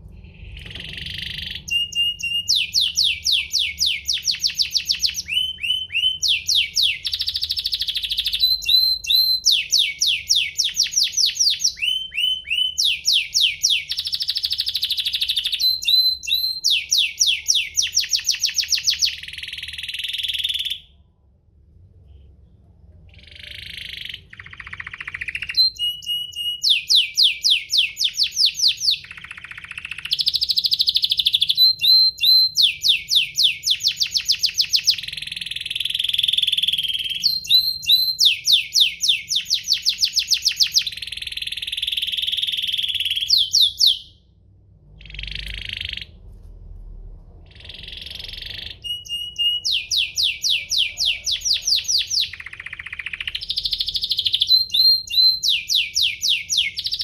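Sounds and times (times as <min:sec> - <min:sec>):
faint low hum: 0:00.0 - 0:57.0
canary singing rapid trills: 0:00.3 - 0:20.9, 0:23.1 - 0:44.2, 0:45.0 - 0:46.2, 0:47.5 - 0:57.0.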